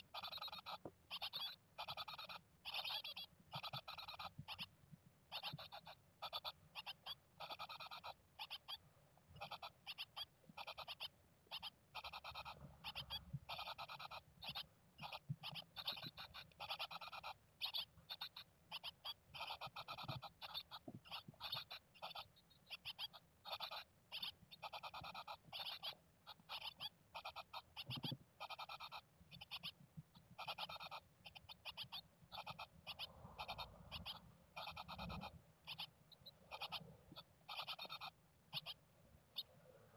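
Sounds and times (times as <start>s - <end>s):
nestlings chirping rapidly: 0.0s - 4.7s, 5.3s - 39.5s.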